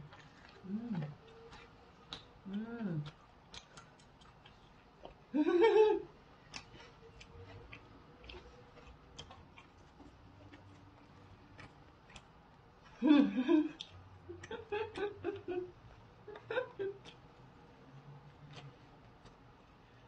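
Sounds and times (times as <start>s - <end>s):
mouth clicks and smacks: 0.0s - 5.3s, 6.2s - 13.0s, 13.7s - 20.0s
chewing spring roll: 0.0s - 20.0s.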